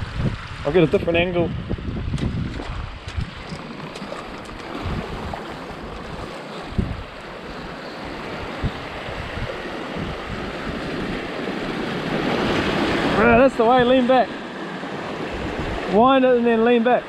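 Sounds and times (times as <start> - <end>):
wind rumbling on microphone: 0.0 - 16.3
sea surf on rocky shoreline: 0.0 - 17.0.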